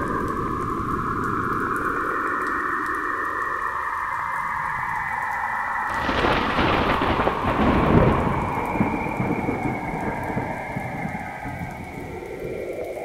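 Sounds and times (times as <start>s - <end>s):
crackling rumbling noise: 0.0s - 13.0s.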